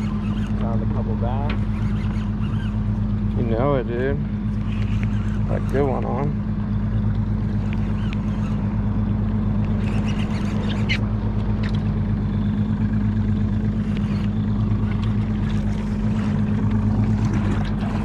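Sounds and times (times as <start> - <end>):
boat engine drone: 0.0 - 18.0.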